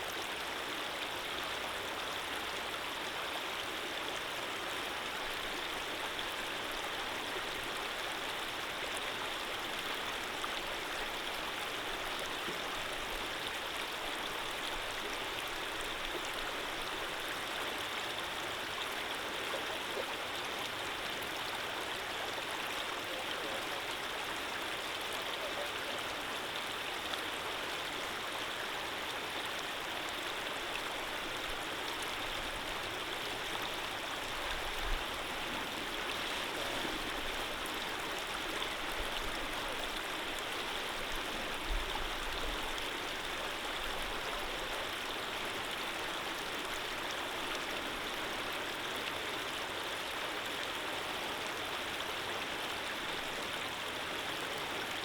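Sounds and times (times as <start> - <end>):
stream of running water: 0.0 - 55.0.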